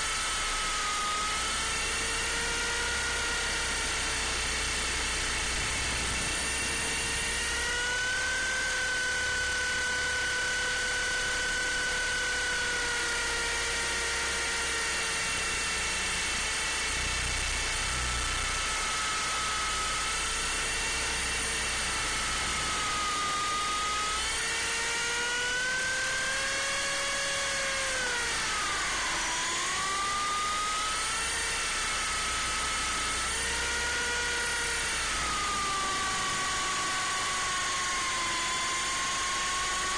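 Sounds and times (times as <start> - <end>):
helicopter motor and rotor whining: 0.0 - 39.9.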